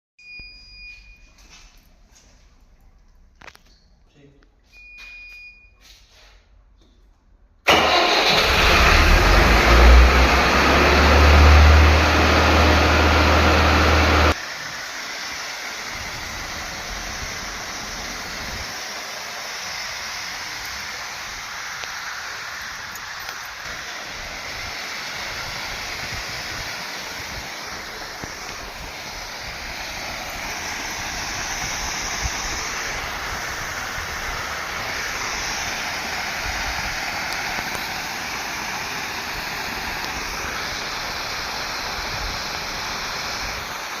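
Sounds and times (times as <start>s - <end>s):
water jetting from hose: 7.7s - 44.0s.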